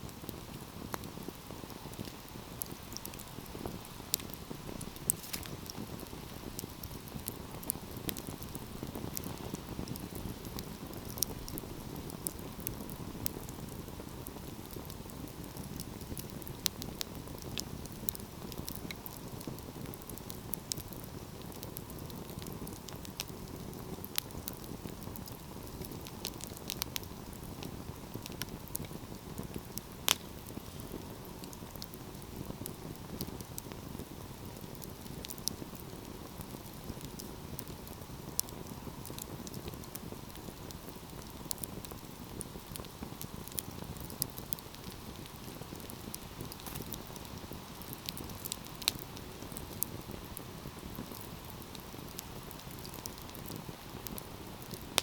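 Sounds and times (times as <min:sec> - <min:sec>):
fire crackling and popping: 0:00.0 - 0:55.0
flames rushing: 0:00.0 - 0:55.0.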